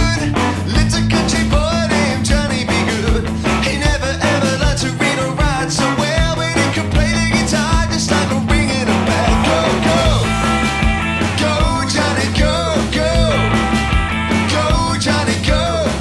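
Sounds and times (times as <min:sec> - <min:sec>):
man singing: 0:00.0 - 0:16.0
rock band playing: 0:00.0 - 0:16.0.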